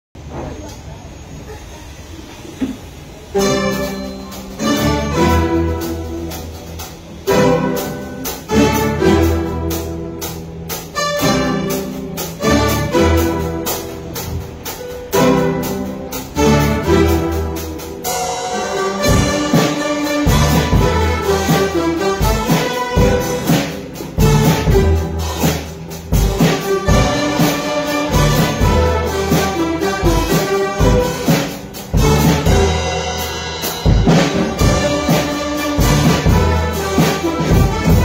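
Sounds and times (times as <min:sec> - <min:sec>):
plucked string ensemble playing ballad: 0:03.4 - 0:38.0.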